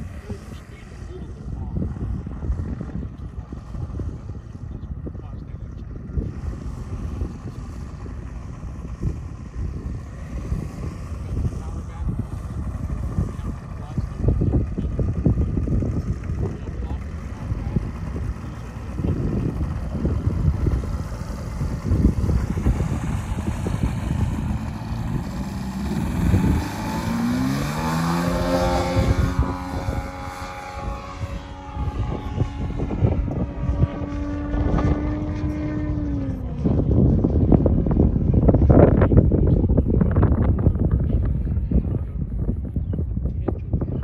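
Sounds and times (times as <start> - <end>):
model airplane engine revving: 0.0 - 42.0
wind buffeting microphone: 0.0 - 44.0.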